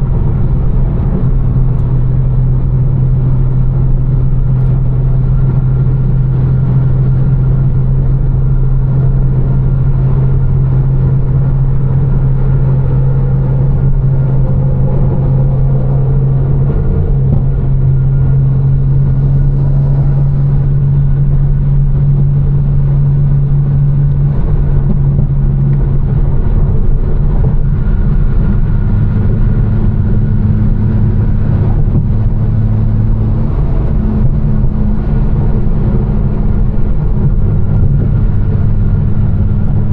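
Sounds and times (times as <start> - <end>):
car exhaust droning: 0.0 - 39.9
tyre and road noise: 0.0 - 39.9.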